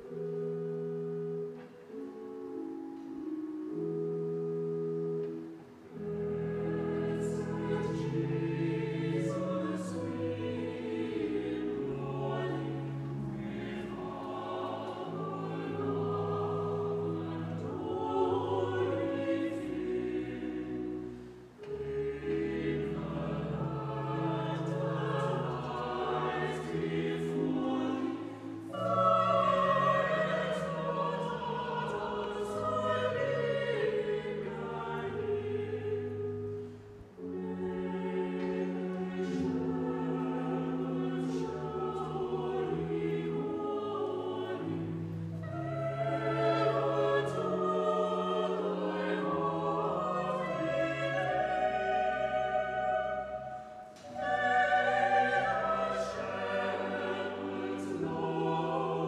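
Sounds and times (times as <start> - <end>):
church choir singing: 0.0 - 59.0.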